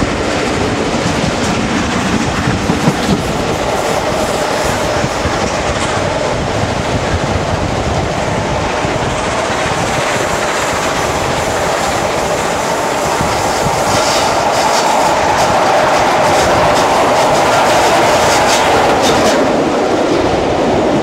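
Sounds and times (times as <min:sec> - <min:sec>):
clickety-clack of train wheels: 0:00.0 - 0:21.0
train rumbling on rails: 0:00.0 - 0:21.0.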